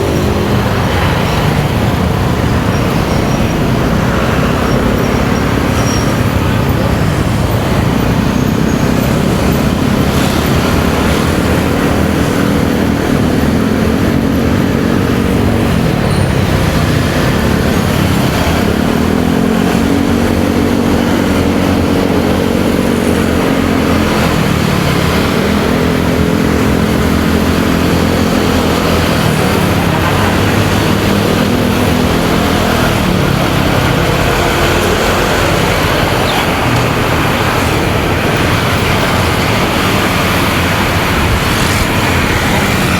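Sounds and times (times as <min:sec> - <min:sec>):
motorcycle engine revving: 0:00.0 - 0:42.9
wind and road noise: 0:00.0 - 0:42.9.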